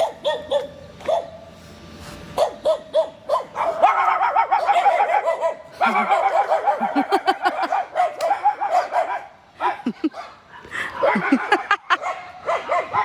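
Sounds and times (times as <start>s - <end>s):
dogs barking: 0.0s - 1.5s, 2.3s - 13.0s.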